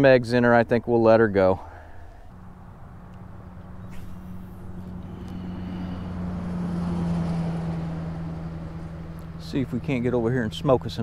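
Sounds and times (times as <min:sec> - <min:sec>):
distant engine drone: 0:00.0 - 0:11.0
steady low hum: 0:01.6 - 0:11.0.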